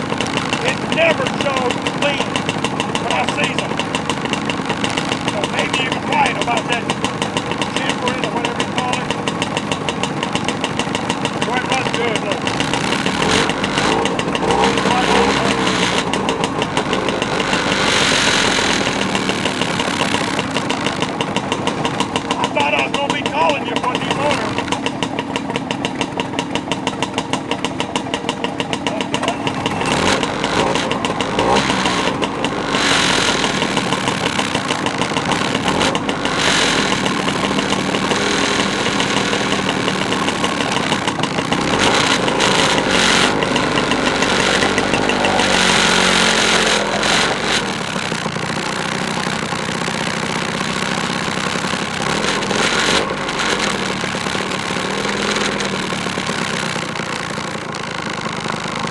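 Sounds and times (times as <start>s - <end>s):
motor scooter engines idling: 0.0s - 58.9s
scooter engines revving: 0.0s - 58.9s.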